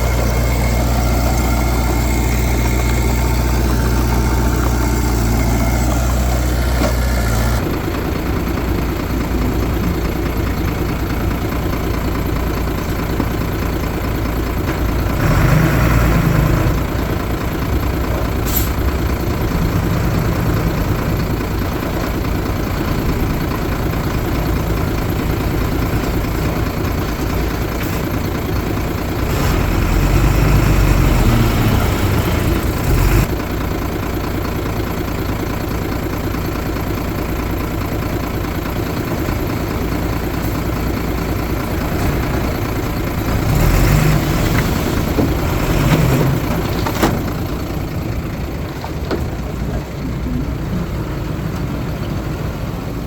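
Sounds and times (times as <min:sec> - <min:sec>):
heavy machinery diesel engines: 0:00.0 - 0:53.0.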